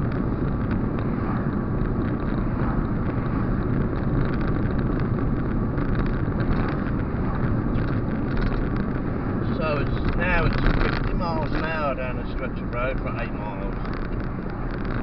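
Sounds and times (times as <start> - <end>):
car engine and tyres on wet road: 0.0 - 15.0.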